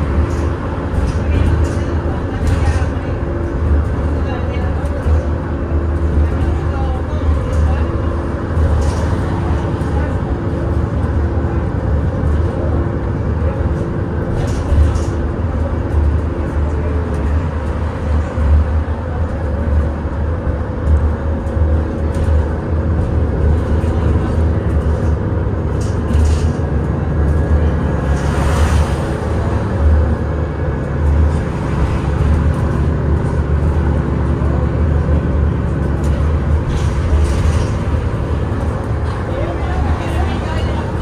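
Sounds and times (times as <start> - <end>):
bus cabin low rumble: 0.0 - 41.0.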